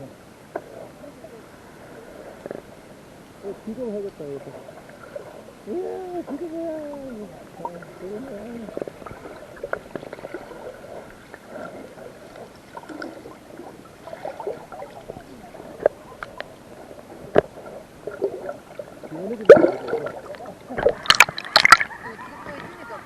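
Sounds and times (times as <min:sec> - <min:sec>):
muffled water gurgling and sloshing: 0:00.0 - 0:23.0.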